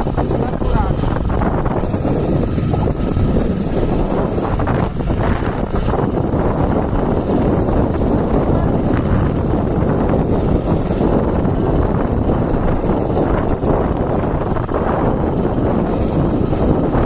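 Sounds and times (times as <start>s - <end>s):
motorcycles passing: 0.0s - 17.0s
wind buffeting microphone: 0.0s - 17.0s.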